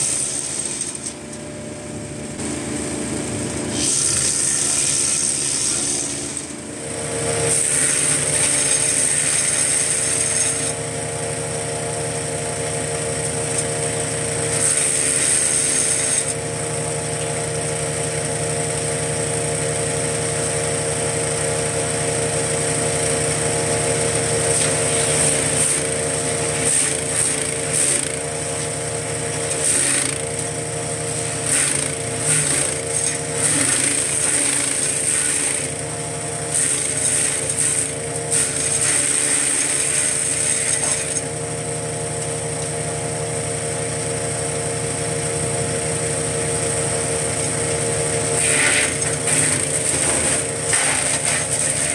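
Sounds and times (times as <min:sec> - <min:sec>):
wood chipper engine running: 0:00.0 - 0:51.9
wood chipper grinding material: 0:00.0 - 0:51.9.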